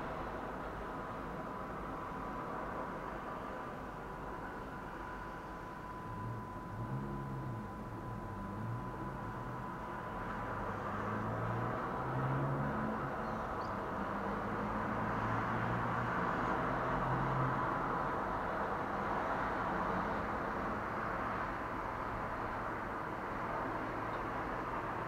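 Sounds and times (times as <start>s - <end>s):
city traffic hum: 0.0s - 25.0s
low engine drone: 0.0s - 25.0s.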